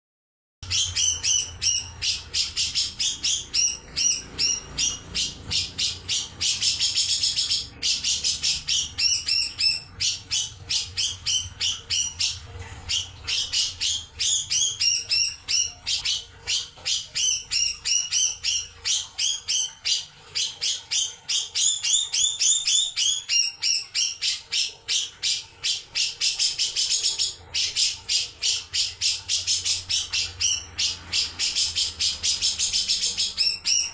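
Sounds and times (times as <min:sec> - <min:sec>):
bulbul chirping and chattering: 0:00.6 - 0:33.9.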